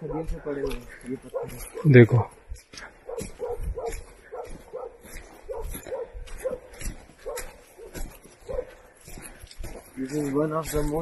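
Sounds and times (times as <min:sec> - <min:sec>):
footsteps on dry leaves: 0:00.0 - 0:11.0.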